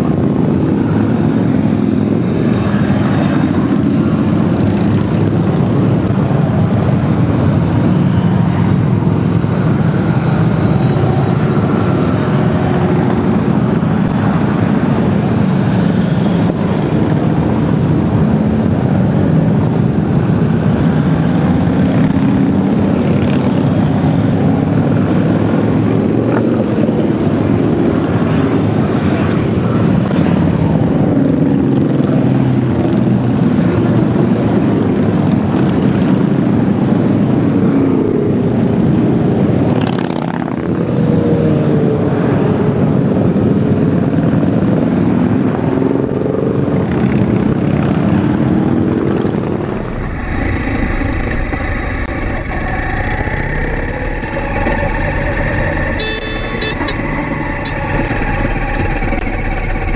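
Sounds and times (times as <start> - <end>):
motorcycles riding past: 0.0 - 59.9.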